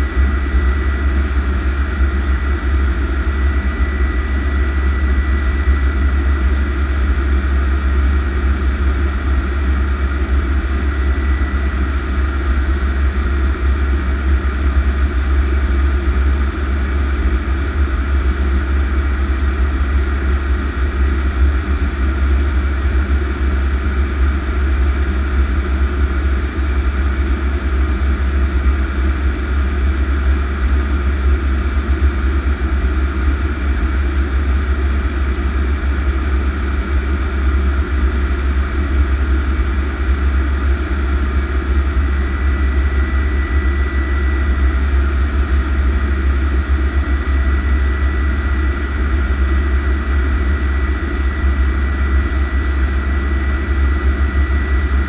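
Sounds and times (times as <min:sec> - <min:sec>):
jet engine idling rumble: 0:00.0 - 0:55.0.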